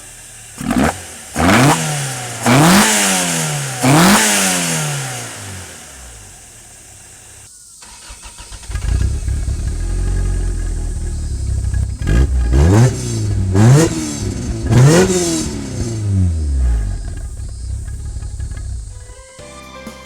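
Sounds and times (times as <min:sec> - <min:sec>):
deeper steady engine sound: 0:00.0 - 0:07.5, 0:08.6 - 0:19.2
car engine revving: 0:00.0 - 0:19.2.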